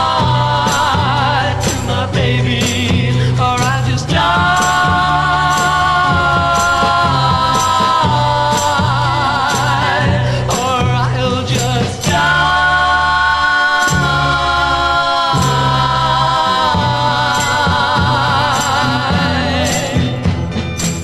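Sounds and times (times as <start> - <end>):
folk vocal group singing harmony: 0.0 - 20.4
instrumental accompaniment: 0.0 - 21.0
sharp percussion strikes: 0.0 - 21.0.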